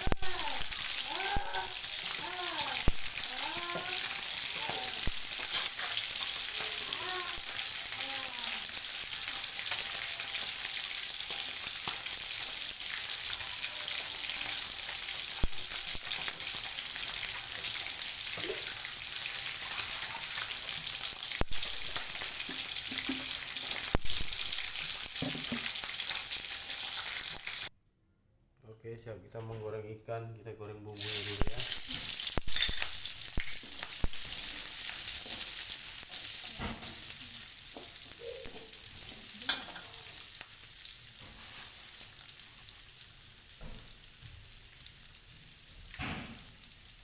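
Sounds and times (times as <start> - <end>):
fish sizzling in oil: 0.0 - 27.7, 31.0 - 47.0.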